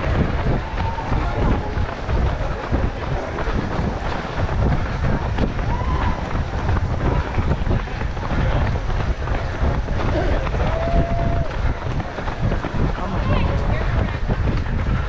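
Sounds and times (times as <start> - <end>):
running footsteps: 0.0 - 15.0
wind buffeting microphone: 0.0 - 15.0.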